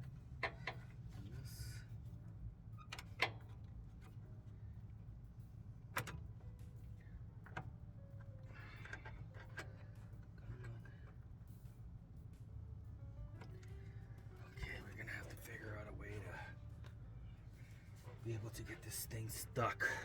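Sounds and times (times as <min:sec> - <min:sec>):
faint low hum: 0:03.6 - 0:20.0.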